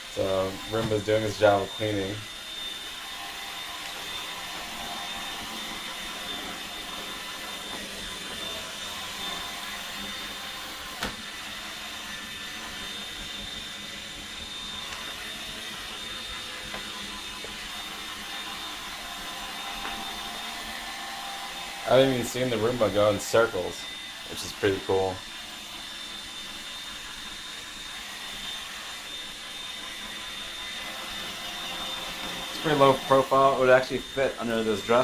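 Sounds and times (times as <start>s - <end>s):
robot vacuum humming: 0.0s - 35.0s.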